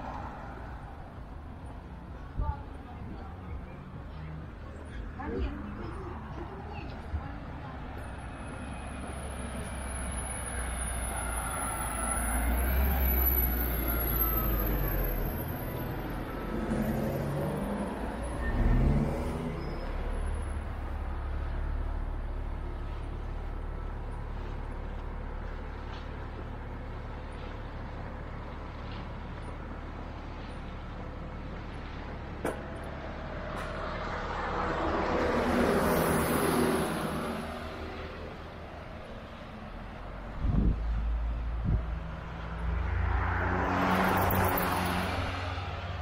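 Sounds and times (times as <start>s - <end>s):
traffic engine rumble: 0.0s - 46.0s
vehicle passing close: 8.5s - 26.0s, 26.7s - 46.0s.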